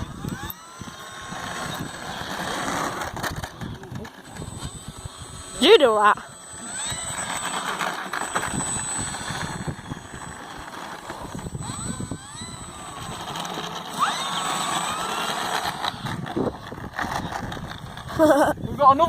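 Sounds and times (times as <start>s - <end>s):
model aircraft motor buzzing: 0.0s - 19.0s.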